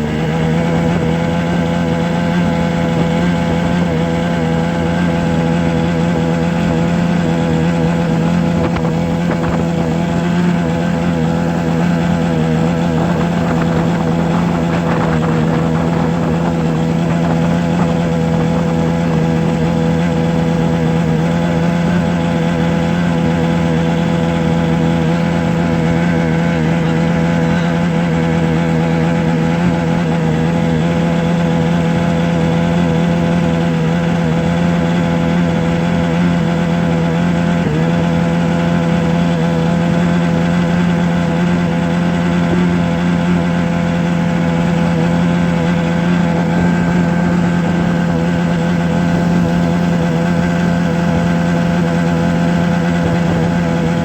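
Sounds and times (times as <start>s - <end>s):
steady motor drone: 0.0s - 54.0s.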